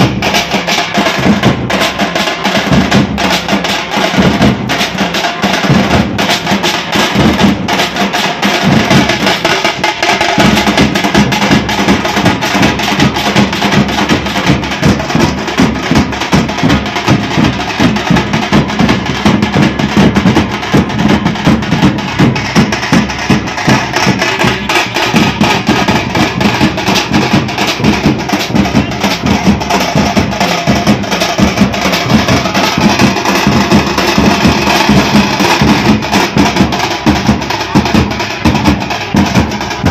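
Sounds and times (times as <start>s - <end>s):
drum troupe playing fast rhythm: 0.0s - 39.9s.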